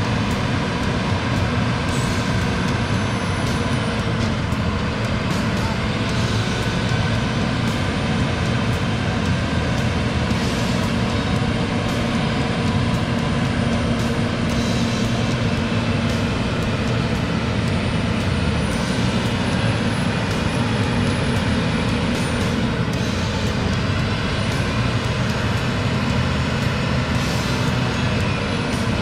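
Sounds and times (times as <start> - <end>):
farm machinery engine running: 0.0 - 29.0.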